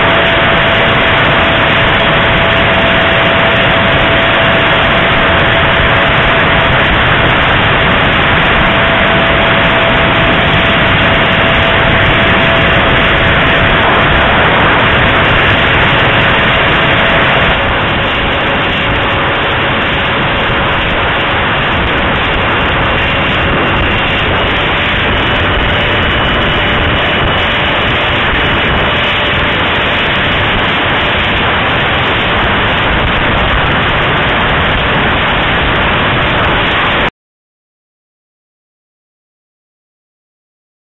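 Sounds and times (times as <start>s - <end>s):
faint electric fan whine: 0.0s - 36.6s
wind rushing over microphone: 0.0s - 37.1s.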